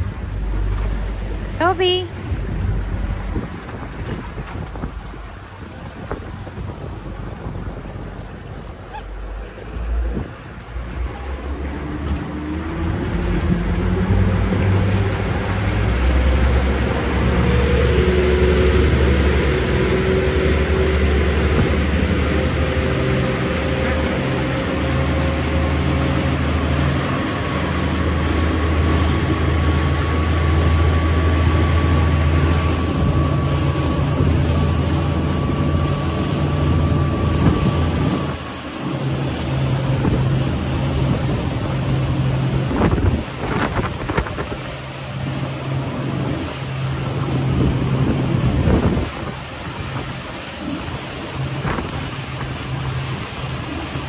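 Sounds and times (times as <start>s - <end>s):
motorboat engine running: 0.0s - 54.0s
water noise: 0.0s - 54.0s
wind: 0.0s - 54.0s.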